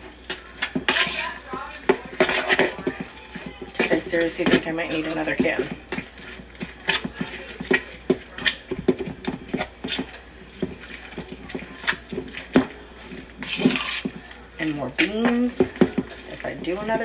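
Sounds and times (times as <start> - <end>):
utensil stirring wet mixture in bowl: 0.0 - 17.0.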